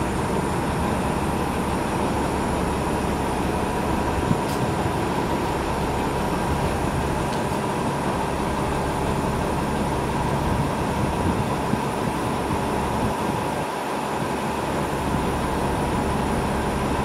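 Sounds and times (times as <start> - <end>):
bus engine idling rumble: 0.0 - 17.0
steady high whine: 0.0 - 17.0.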